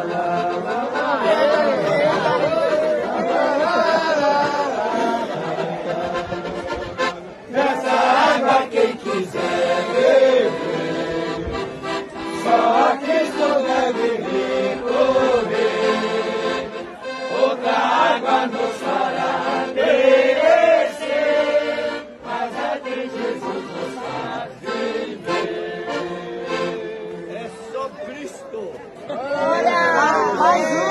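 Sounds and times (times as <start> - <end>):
piano accordion melody: 0.0 - 27.8
crowd singing along: 0.0 - 28.0, 29.1 - 30.9.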